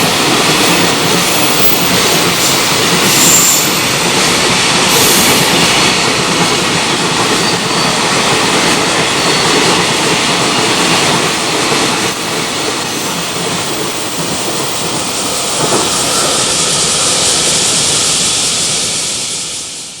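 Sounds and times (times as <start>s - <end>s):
train wheels clattering over rails: 0.0s - 20.0s.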